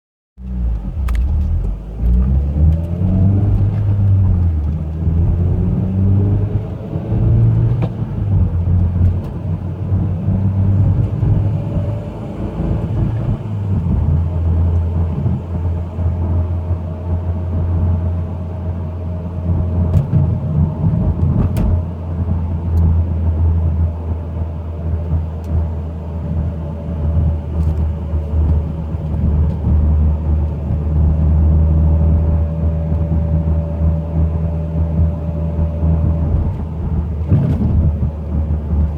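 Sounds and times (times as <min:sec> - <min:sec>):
car engine rumble: 0:00.4 - 0:38.9.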